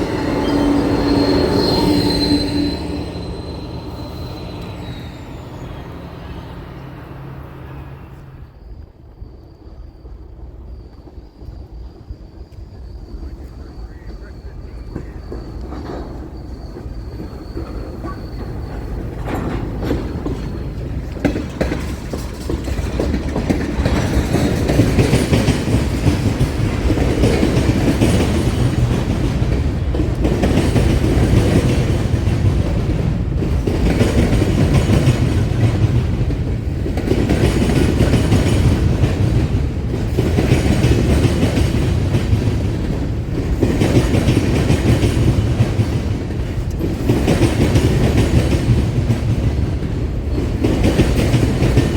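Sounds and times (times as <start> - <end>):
wheels clacking over rail joints: 0.0 - 8.7, 13.7 - 51.9
train rumbling past: 0.0 - 51.9.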